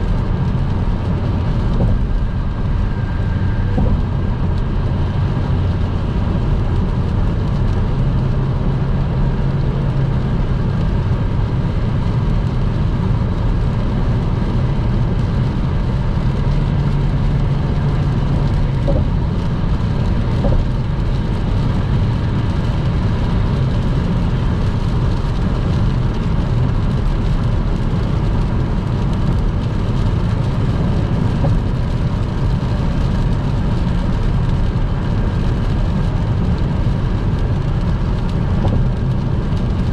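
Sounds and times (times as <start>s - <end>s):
car driving on a wet road: 0.0s - 39.9s.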